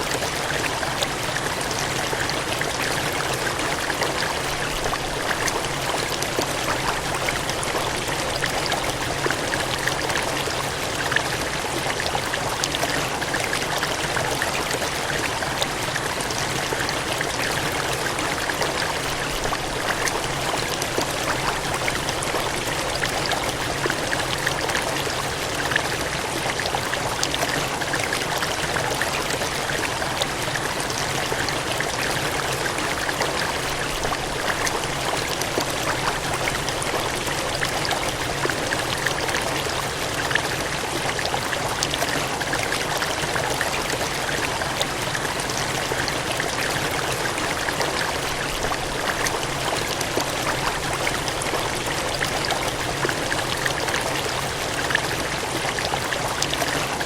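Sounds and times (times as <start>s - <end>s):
water gushing and cascading: 0.0s - 57.0s.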